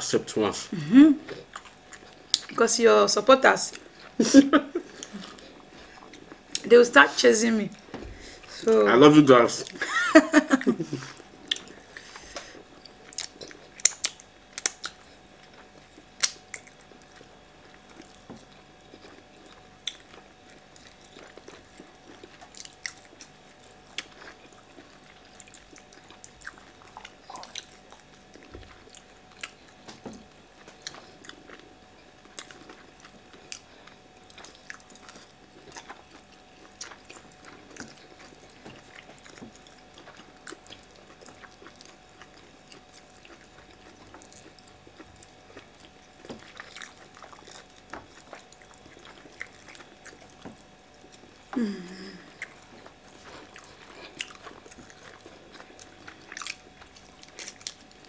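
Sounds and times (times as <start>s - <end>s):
soft chewing: 1.2s - 2.6s, 3.6s - 6.7s, 9.4s - 58.0s.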